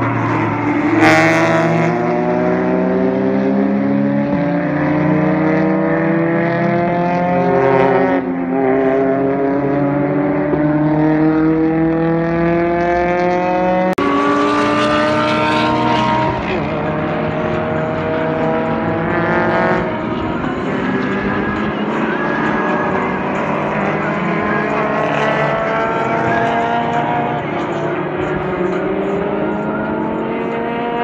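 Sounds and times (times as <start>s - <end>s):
race car engines accelerating: 0.0s - 31.0s.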